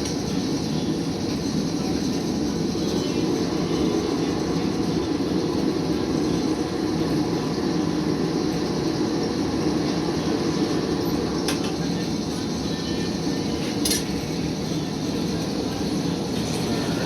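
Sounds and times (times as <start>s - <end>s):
shop machinery rumbling: 0.0s - 17.0s.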